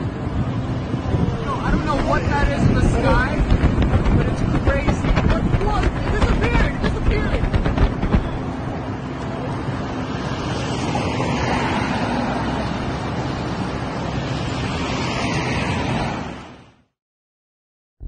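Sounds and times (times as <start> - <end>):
wind rushing on microphone: 0.0 - 16.7.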